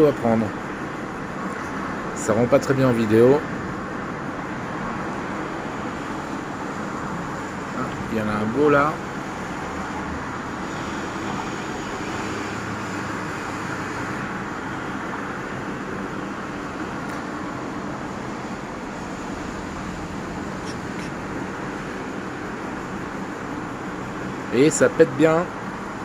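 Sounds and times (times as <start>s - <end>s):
distant road traffic hum: 0.0s - 26.0s.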